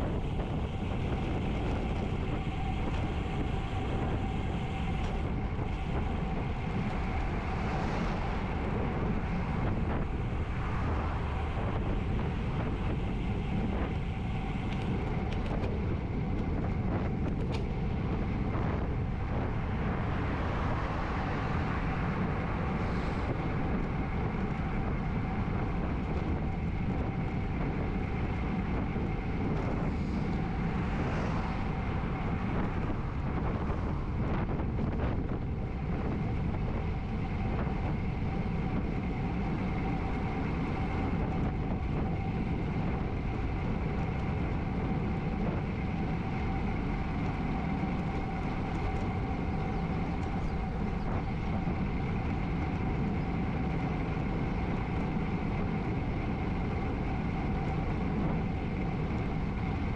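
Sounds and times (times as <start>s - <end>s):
faint steady whine: 0.0s - 59.9s
tyres rumbling on road: 0.0s - 59.9s
wind rush on microphone: 0.0s - 59.9s.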